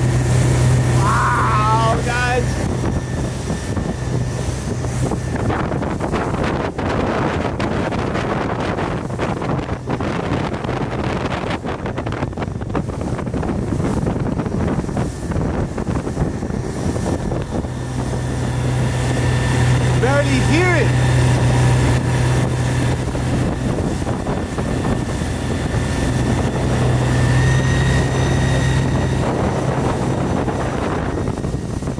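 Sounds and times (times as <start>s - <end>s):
low engine hum: 0.0s - 31.9s
water rushing past boat: 0.0s - 31.9s
wind buffeting microphone: 0.0s - 31.9s.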